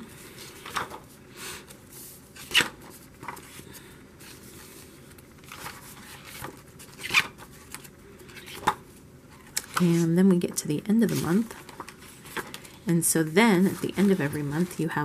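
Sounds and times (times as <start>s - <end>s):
paper pages turning: 0.4s - 1.2s, 1.9s - 10.2s, 11.0s - 12.8s, 13.6s - 15.0s.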